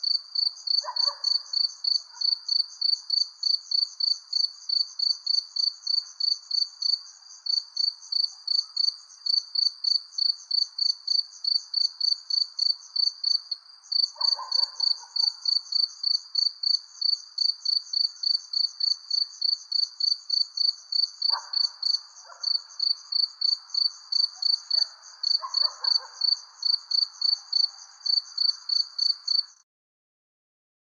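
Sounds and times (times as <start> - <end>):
crickets chirping: 0.0 - 29.6.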